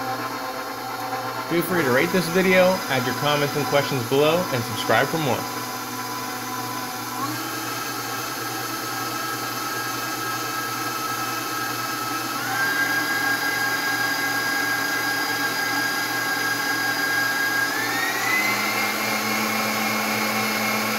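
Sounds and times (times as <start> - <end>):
stand mixer motor whine: 0.0 - 20.9.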